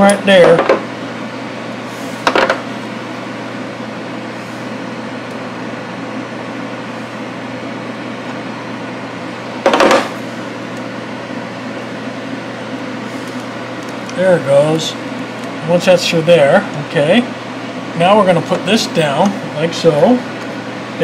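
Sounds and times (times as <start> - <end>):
electric fan humming: 0.0 - 21.0.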